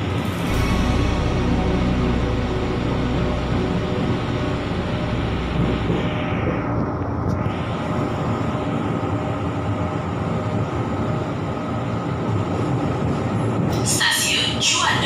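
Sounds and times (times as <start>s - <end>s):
faint steady hum: 0.0s - 15.0s
train wheels rumbling on rail: 0.0s - 15.0s.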